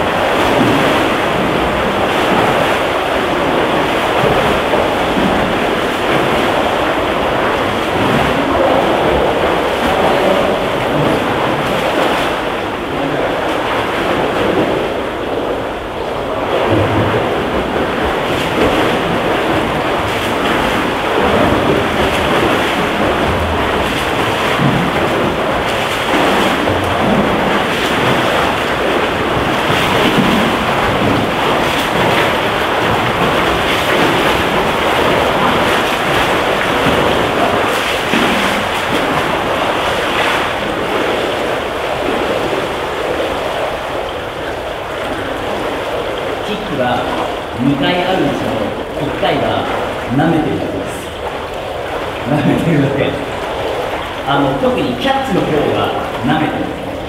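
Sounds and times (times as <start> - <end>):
swimmers splashing water: 0.0 - 57.0.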